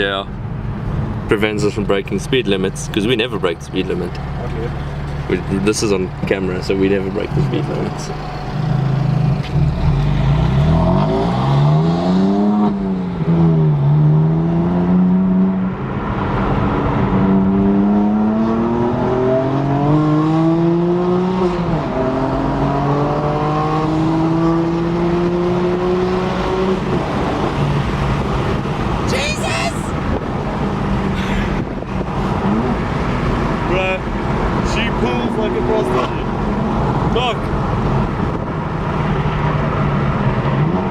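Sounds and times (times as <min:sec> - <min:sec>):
car engine accelerating: 0:01.9 - 0:40.9.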